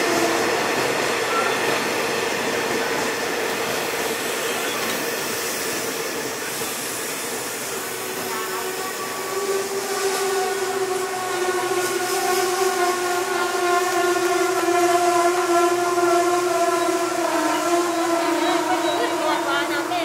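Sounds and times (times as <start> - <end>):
train coaches rolling: 0.0 - 20.0.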